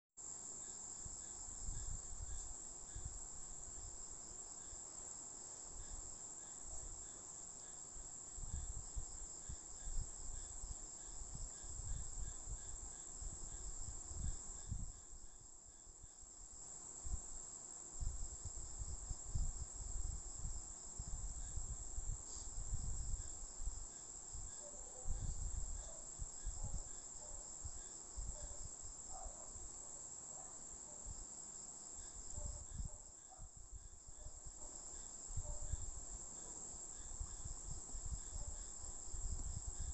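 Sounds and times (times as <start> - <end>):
insect chirring: 0.2 - 39.9.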